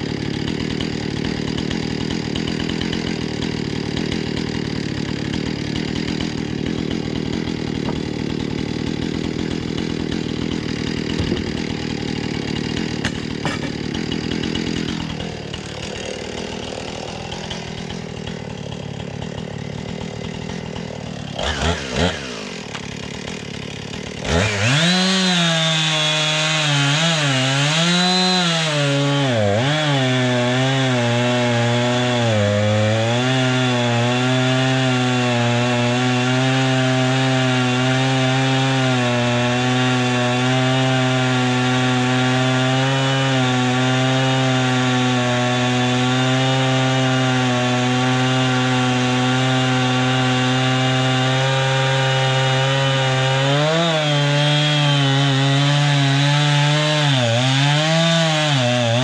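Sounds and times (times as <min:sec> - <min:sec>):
gasoline saw cutting wood: 0:00.0 - 0:59.0.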